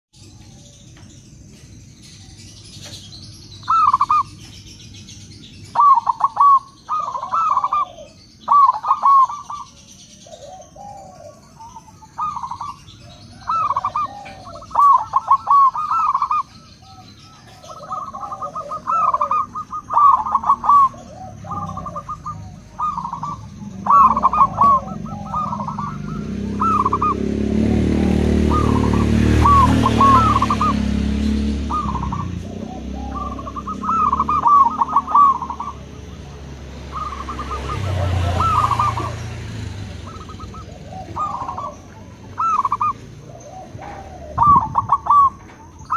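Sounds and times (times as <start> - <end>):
doves cooing: 2.7 - 45.9.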